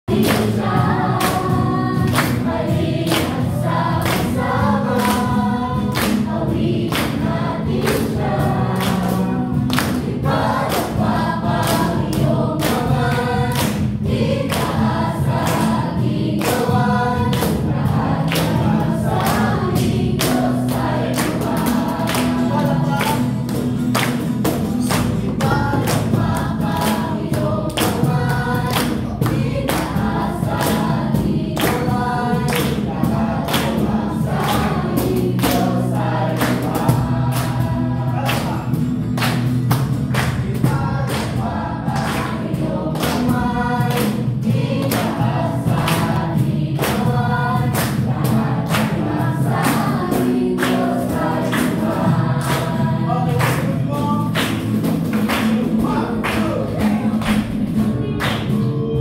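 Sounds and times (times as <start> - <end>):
group singing in unison: 0.1 - 59.0
hands clapping on a beat: 0.1 - 59.0.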